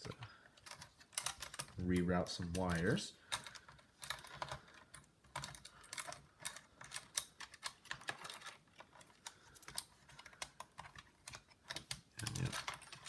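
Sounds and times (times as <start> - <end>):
plastic and wires clicking and tapping: 0.0 - 13.0.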